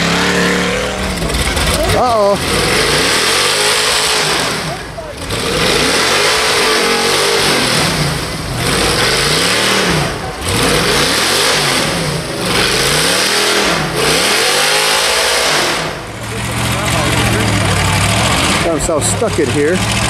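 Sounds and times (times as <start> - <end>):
buggy engine revving hard: 0.0 - 20.0
tires spinning in snow: 0.0 - 20.0.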